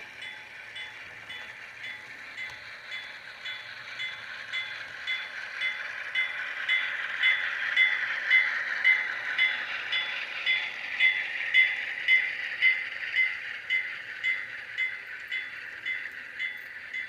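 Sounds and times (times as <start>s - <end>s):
model train whirring: 0.0s - 17.0s.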